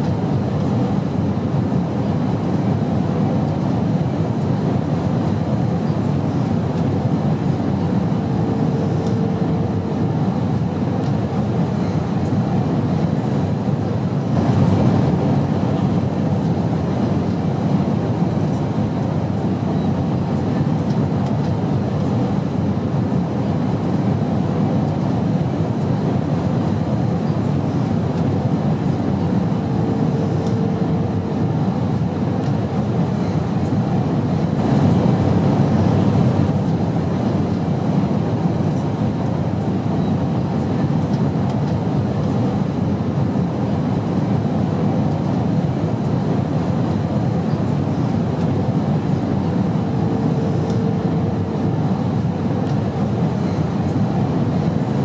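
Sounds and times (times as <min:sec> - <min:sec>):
airplane engine rumble: 0:00.0 - 0:55.0.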